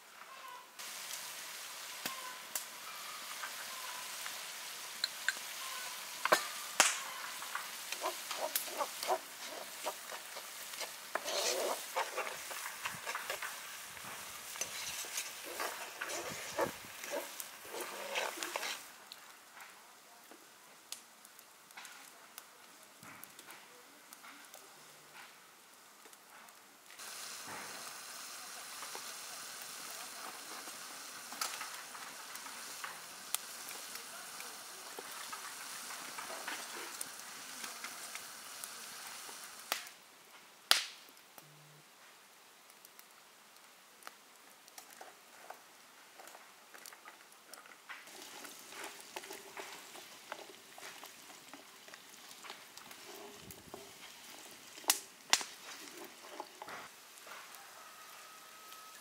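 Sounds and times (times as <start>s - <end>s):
pumpkin sizzling in a pan: 0.0s - 23.4s, 24.0s - 41.2s, 42.0s - 59.0s
wood fire crackling: 0.0s - 59.0s.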